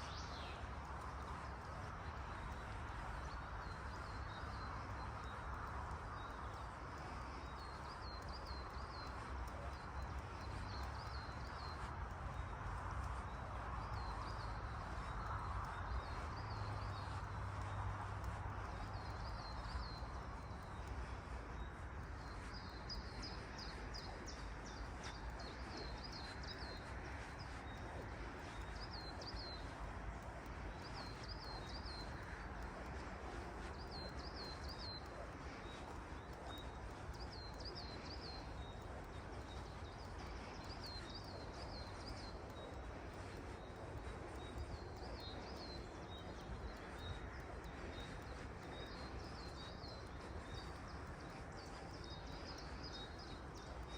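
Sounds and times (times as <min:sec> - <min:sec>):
forest ambience hiss: 0:00.0 - 0:53.9
songbird chirping: 0:00.0 - 0:53.9.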